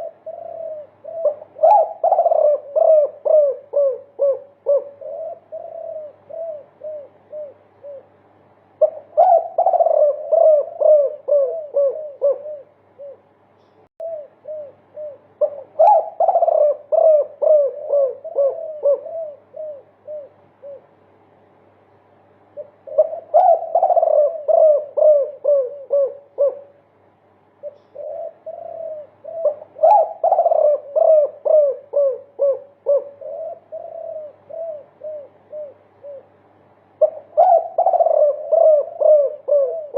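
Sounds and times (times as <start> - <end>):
dove cooing: 0.0 - 21.1, 22.5 - 26.9, 27.6 - 39.9.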